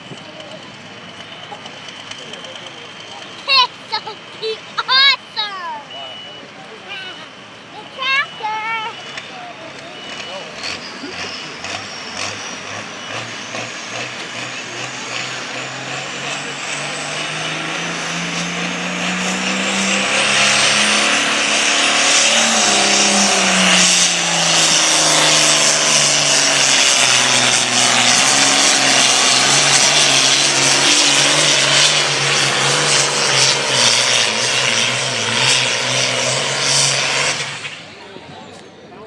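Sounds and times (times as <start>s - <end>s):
tractor engine at high revs: 0.0s - 39.0s.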